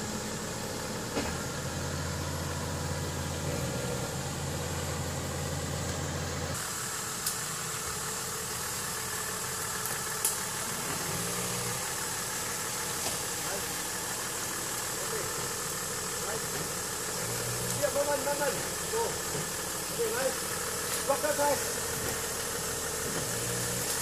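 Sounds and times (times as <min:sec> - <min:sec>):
truck engine at low revs: 0:00.0 - 0:24.0.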